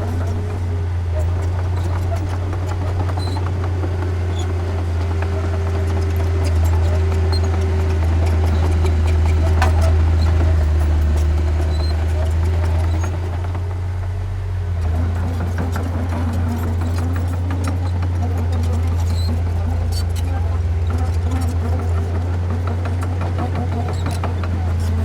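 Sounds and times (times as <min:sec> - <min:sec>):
light clicks and clanks: 0:00.0 - 0:13.7, 0:14.8 - 0:25.0
heavy diesel engine running: 0:00.0 - 0:25.0.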